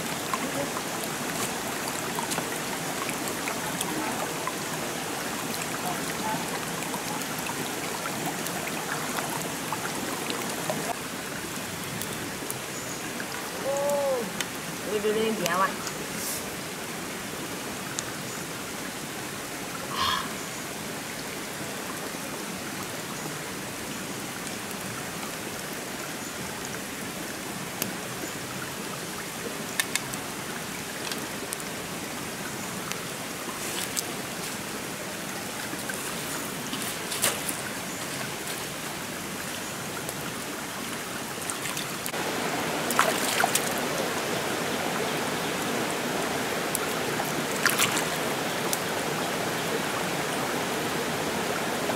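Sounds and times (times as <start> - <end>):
creek flowing over stones: 0.0 - 51.9.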